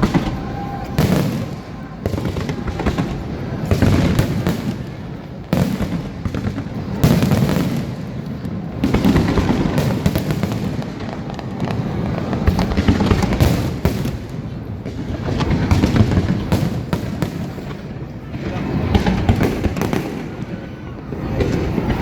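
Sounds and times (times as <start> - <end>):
fireworks crackling and rumbling: 0.0 - 22.0
fireworks shells booming: 0.0 - 22.0.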